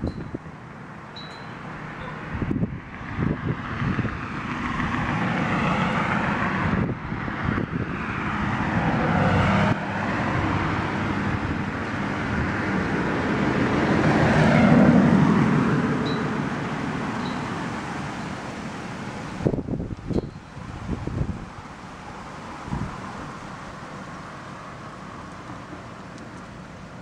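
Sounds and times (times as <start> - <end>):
vehicles driving past: 0.0 - 27.0.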